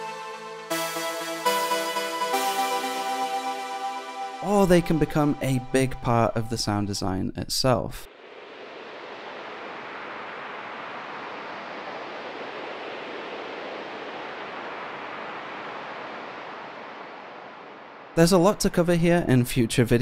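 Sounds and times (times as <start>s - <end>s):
synthesized wind hiss: 0.0s - 20.0s.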